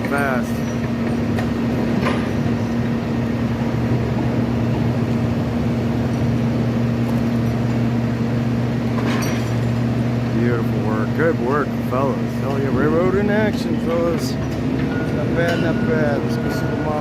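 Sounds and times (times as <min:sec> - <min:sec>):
work machine engine humming: 0:00.0 - 0:17.0.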